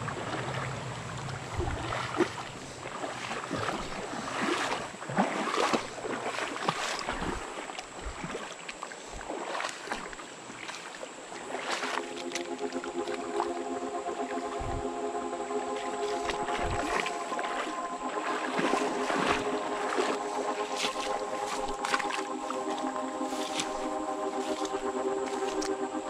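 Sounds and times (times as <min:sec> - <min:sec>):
water splashing in a creek: 0:00.0 - 0:26.0.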